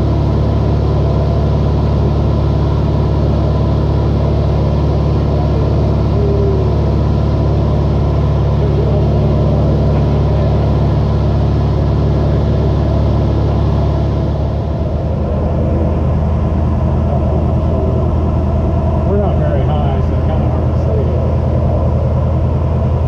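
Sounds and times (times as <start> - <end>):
light airplane engine drone: 0.0 - 23.0.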